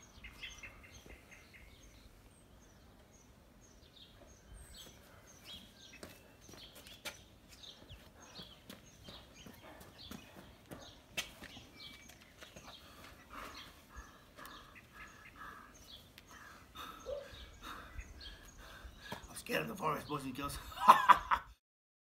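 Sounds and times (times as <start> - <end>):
faint birdsong chirps: 0.0 - 21.6
footsteps on brick path: 0.1 - 3.2, 3.8 - 19.8.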